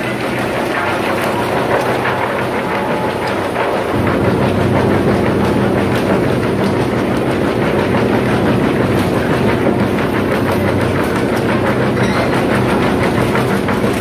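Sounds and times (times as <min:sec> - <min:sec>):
deep machine hum: 0:00.0 - 0:14.0
wood chipper rattling: 0:00.0 - 0:14.0.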